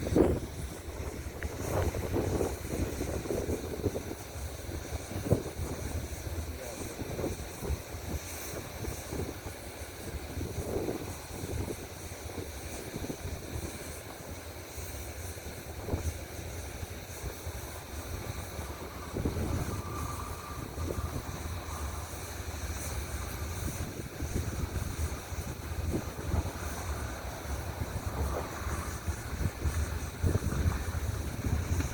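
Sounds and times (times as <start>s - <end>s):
wind on microphone: 0.0s - 14.4s, 15.2s - 31.9s
train rolling rumble: 0.0s - 31.9s.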